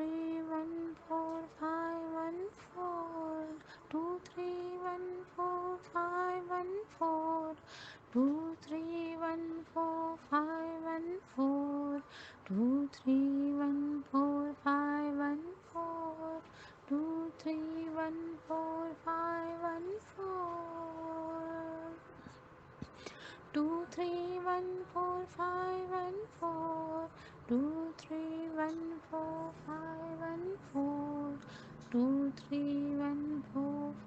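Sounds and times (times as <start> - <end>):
woman chanting sing-song: 0.0 - 22.2, 23.1 - 34.0.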